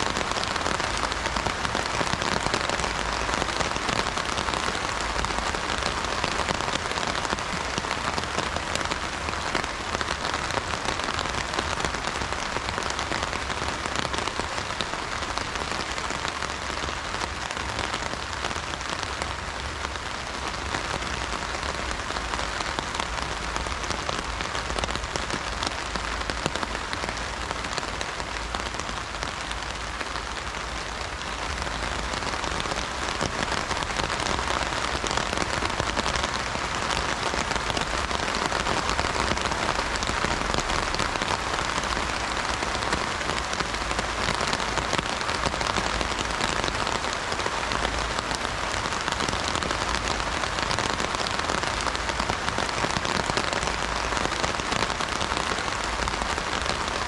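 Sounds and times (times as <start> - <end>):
heavy rain on an umbrella: 0.0 - 57.0.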